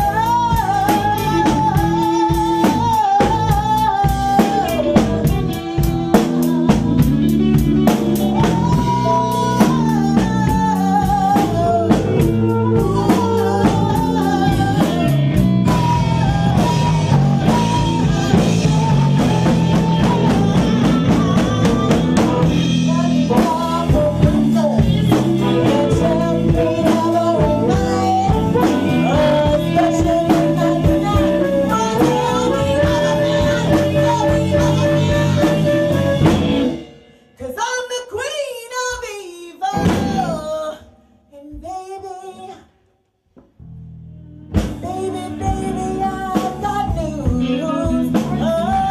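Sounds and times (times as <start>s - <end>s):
drum kit beat: 0.0s - 37.2s, 39.8s - 40.6s, 44.5s - 48.9s
electric guitar: 0.0s - 37.4s, 43.6s - 48.9s
woman singing: 0.0s - 42.8s, 44.6s - 48.9s.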